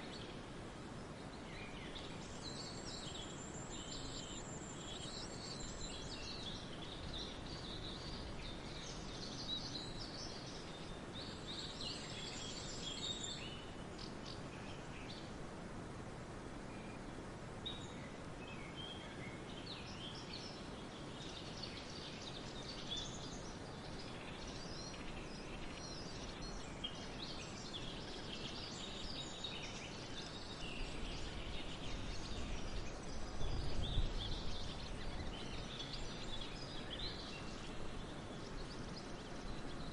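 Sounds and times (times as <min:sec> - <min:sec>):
small birds chirping: 0:00.0 - 0:15.6, 0:16.4 - 0:39.9
forest ambience hiss: 0:00.0 - 0:39.9.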